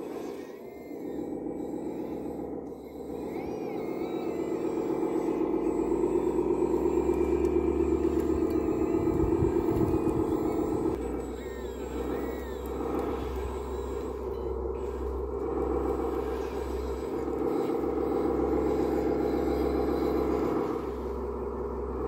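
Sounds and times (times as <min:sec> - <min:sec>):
toy truck motor drone: 0:00.0 - 0:22.0.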